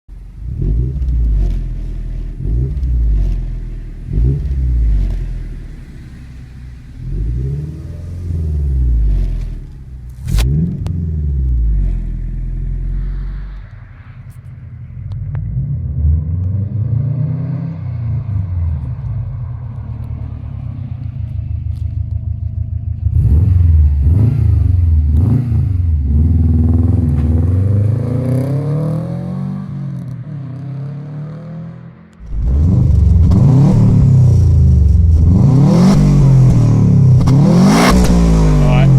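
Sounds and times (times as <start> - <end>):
exhaust crack: 0.1 - 16.9, 17.9 - 28.5, 32.0 - 38.9
car engine revving: 0.1 - 38.9.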